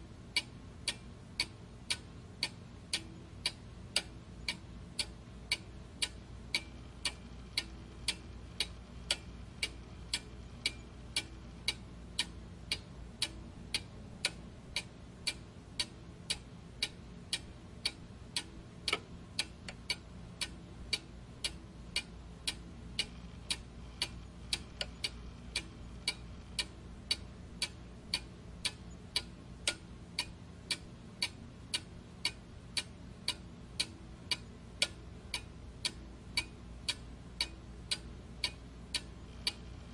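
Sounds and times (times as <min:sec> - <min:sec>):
faint low hum: 0:00.0 - 0:39.9
clock ticking: 0:00.3 - 0:39.9.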